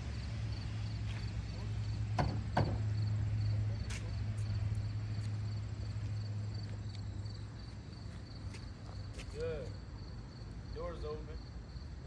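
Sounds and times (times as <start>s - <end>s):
cricket chirping: 0.1s - 12.0s.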